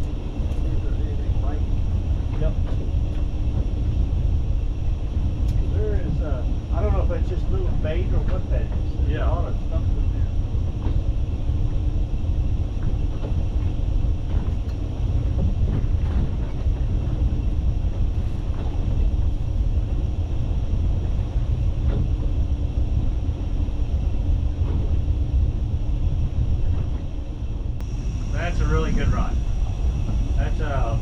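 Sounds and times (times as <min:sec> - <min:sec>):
boat engine idling: 0:00.0 - 0:31.0.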